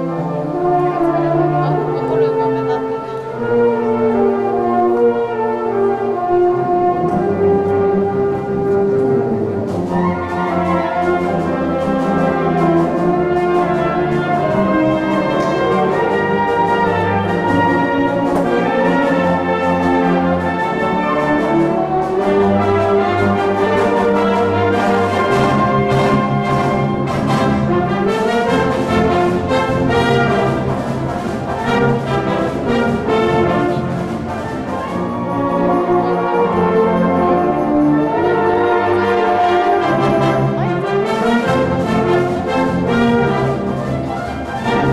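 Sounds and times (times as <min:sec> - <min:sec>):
wind band playing: 0:00.0 - 0:44.9.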